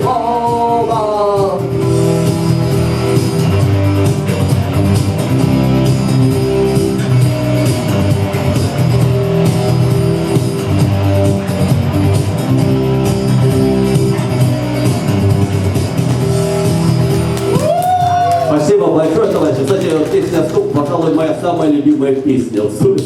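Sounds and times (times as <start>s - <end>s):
rock music with guitar and drums: 0.0s - 18.5s.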